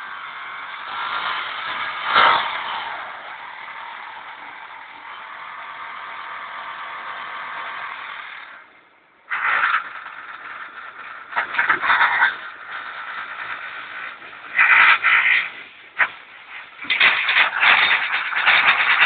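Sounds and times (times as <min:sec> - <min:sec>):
wheel repair machine scraping: 0:00.0 - 0:19.0.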